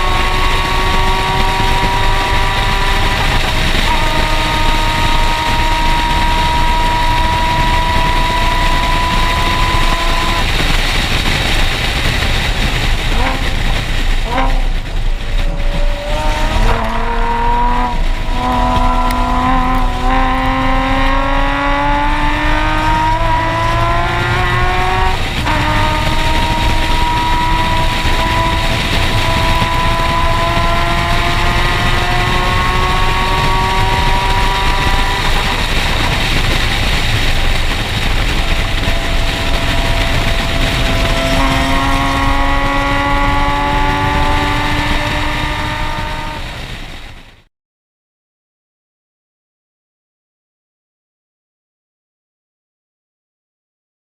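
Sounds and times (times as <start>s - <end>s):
car engine revving through gears: 0.0s - 47.0s.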